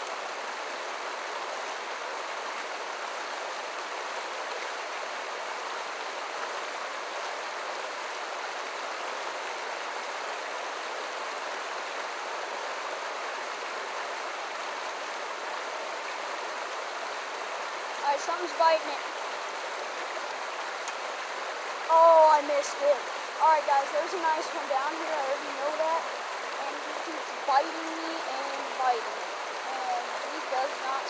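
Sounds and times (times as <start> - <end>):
creek water rushing and babbling: 0.0 - 31.0.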